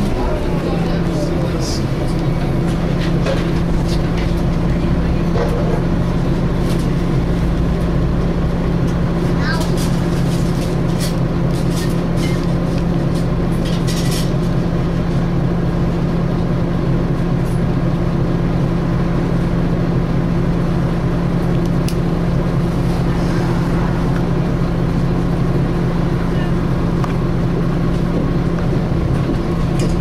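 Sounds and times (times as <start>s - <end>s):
cooling fan whirring: 0.0s - 30.0s
diesel engine droning: 0.0s - 30.0s.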